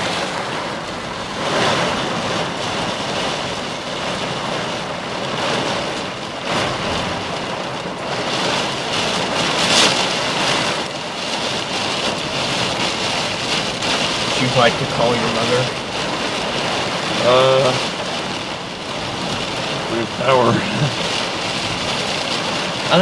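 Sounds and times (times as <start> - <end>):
rain falling on a car: 0.0 - 23.0
wind-driven rain surges: 0.0 - 23.0.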